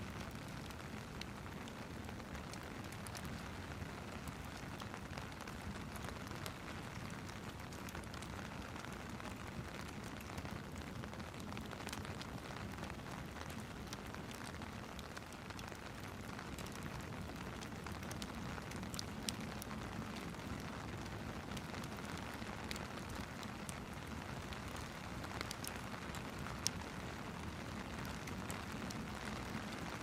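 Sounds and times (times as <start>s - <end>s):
fireplace crackling and popping: 0.0s - 30.0s
steady rain hiss: 0.0s - 30.0s.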